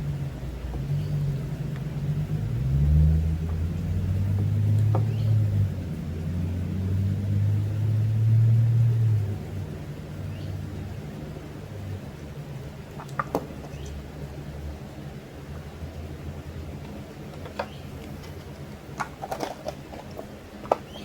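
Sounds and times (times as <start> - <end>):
low engine-like hum: 0.0 - 21.0.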